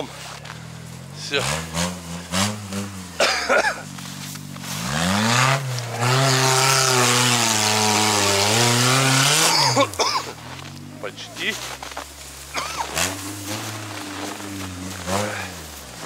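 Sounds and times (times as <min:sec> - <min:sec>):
engine revving hard: 0:00.0 - 0:16.0.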